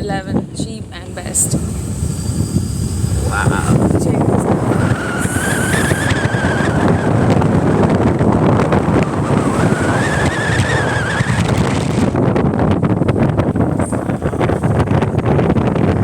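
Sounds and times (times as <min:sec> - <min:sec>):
rising engine whine: 0:00.0 - 0:16.0
truck engine running: 0:00.0 - 0:16.0
wind buffeting microphone: 0:00.0 - 0:16.0.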